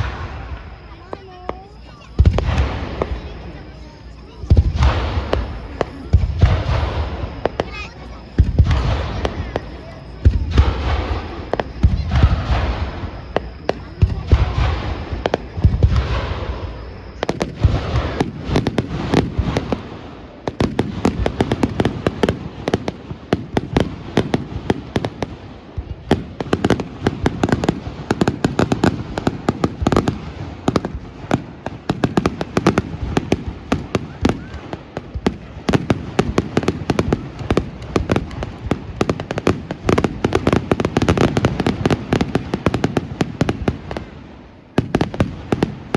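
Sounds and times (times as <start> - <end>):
firework crackling bangs: 0.0 - 45.9
firework shells booming: 0.0 - 45.9.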